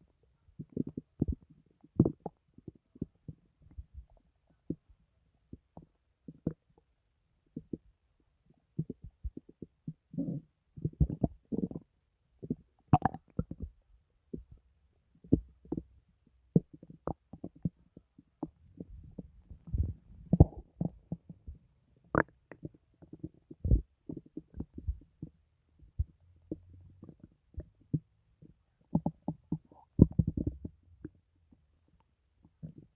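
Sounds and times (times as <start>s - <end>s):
stomach gurgling: 0.0s - 32.9s.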